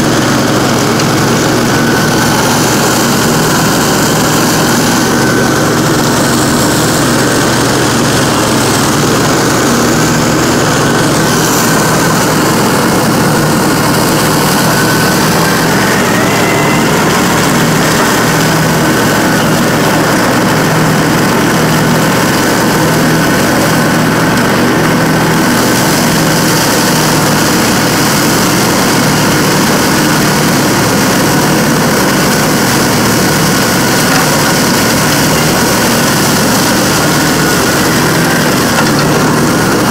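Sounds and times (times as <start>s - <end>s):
mower engine and blades running: 0.0s - 39.9s.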